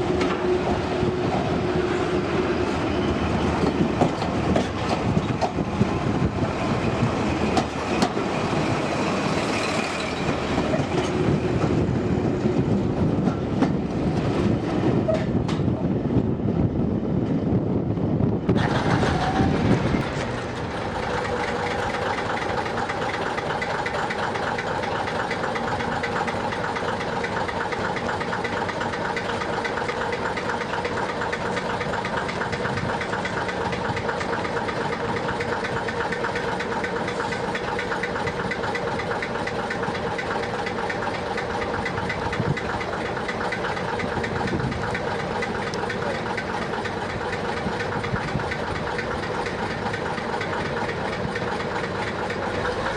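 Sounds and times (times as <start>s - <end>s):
diesel locomotive engine idling: 0.0s - 52.9s
engine whine: 0.0s - 52.9s.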